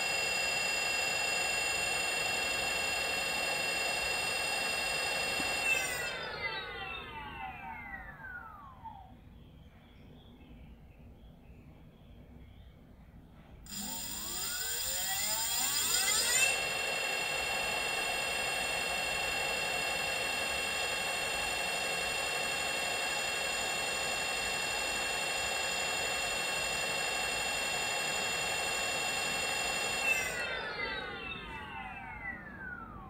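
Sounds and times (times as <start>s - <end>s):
electric hub motor whine: 0.0s - 9.1s, 13.7s - 33.0s.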